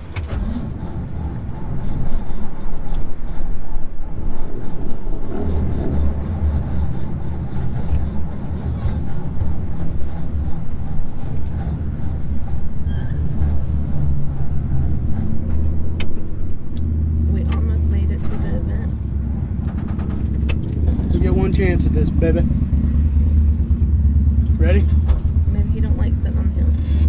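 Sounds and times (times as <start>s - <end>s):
pickup truck engine rumbling: 0.0s - 27.0s.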